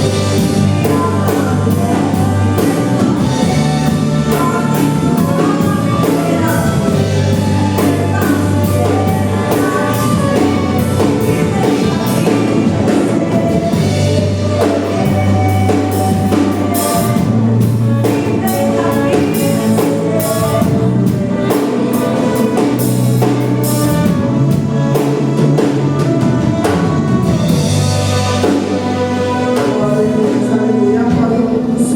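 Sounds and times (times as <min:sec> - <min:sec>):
band playing instrumental: 0:00.0 - 0:31.9.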